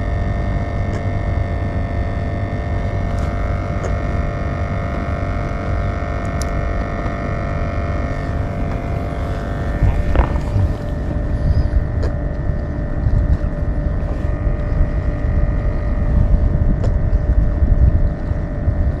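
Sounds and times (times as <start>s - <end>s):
droning hum of held tones: 0.0s - 19.0s
steady low rumble: 0.0s - 19.0s.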